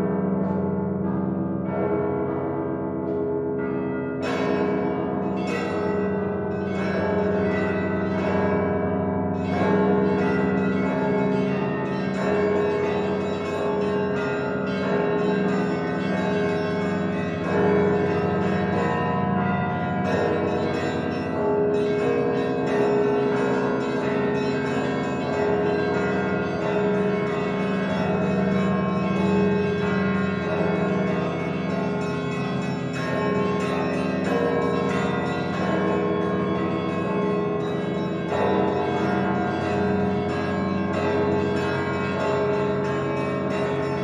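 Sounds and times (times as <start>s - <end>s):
church bells pealing: 0.0s - 44.0s.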